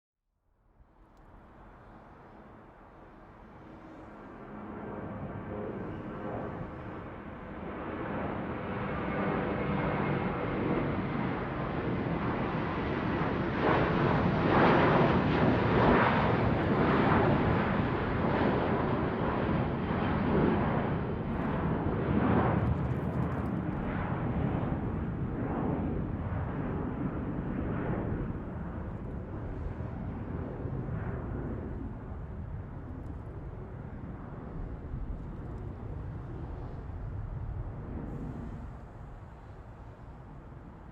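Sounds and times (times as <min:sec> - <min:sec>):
airplane flying overhead: 0:00.6 - 0:40.9.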